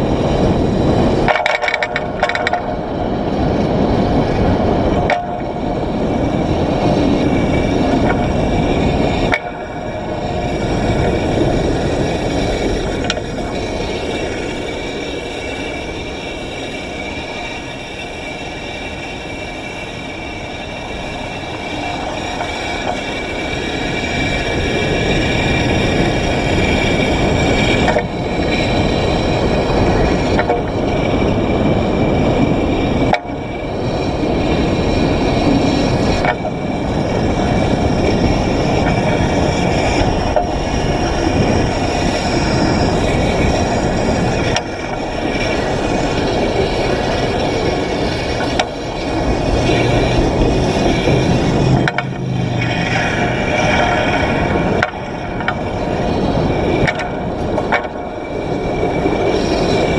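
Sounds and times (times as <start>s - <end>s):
streetcar rolling and wind noise: 0.0s - 59.9s.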